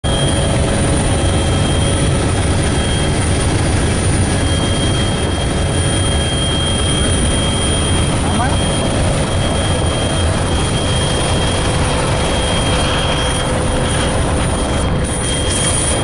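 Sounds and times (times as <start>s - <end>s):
helicopter rumble and flutter: 0.0s - 16.0s
high whine: 0.0s - 16.0s.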